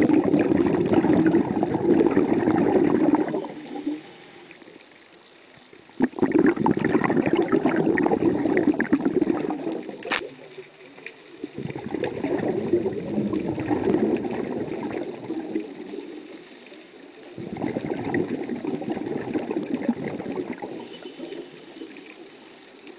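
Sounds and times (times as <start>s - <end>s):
underwater breath bubbling: 0.0s - 4.9s, 5.9s - 22.9s.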